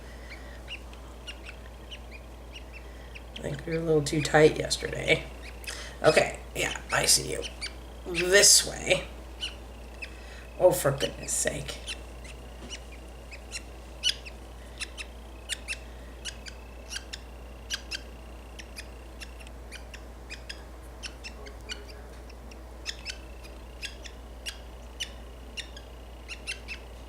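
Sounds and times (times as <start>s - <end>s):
budgies chirping: 0.0s - 27.0s.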